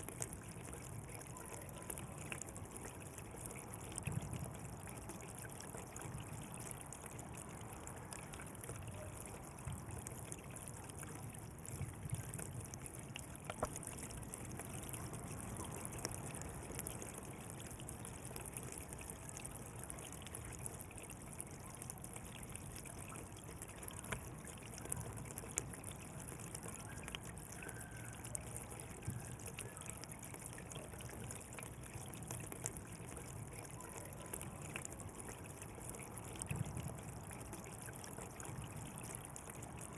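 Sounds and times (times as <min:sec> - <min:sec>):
water flowing in a channel: 0:00.0 - 0:39.9
water splashes and drips: 0:00.0 - 0:39.9.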